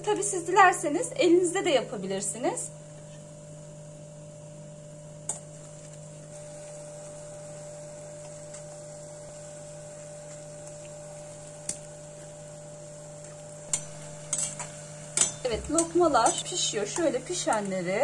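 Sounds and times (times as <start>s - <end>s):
low steady hum: 0.0s - 18.0s
dough frying in hot oil: 3.3s - 18.0s.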